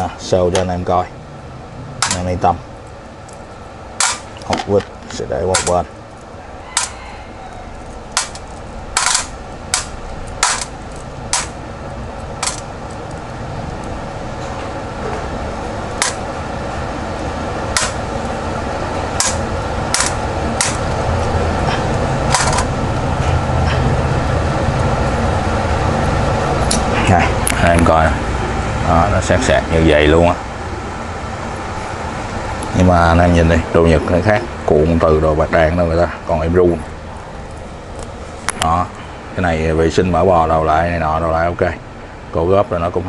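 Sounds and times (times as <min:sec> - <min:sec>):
low hum: 0:00.0 - 0:42.5.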